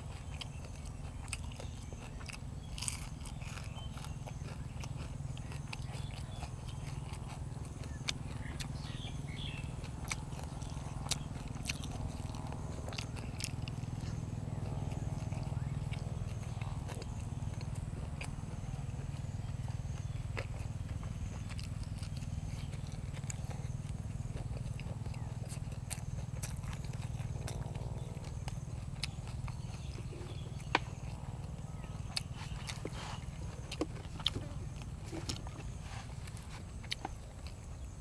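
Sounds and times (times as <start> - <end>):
chewing crunches: 0.0 - 38.0.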